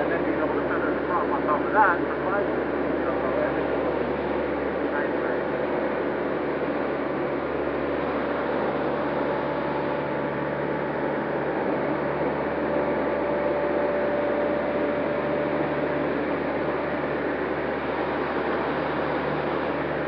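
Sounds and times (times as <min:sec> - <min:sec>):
faint steady whine: 0:00.0 - 0:20.0.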